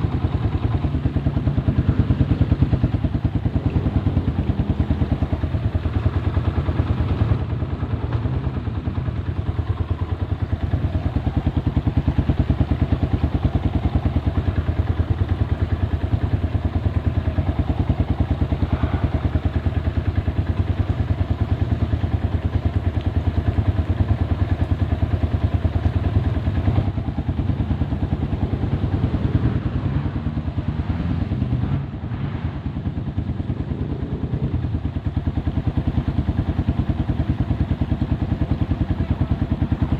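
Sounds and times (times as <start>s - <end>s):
vehicle engine running at low revs: 0.0s - 39.9s.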